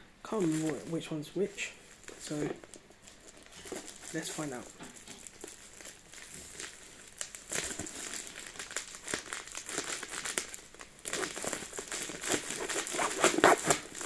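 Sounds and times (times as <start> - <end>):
plastic packaging crinkling and tearing: 0.3 - 14.0.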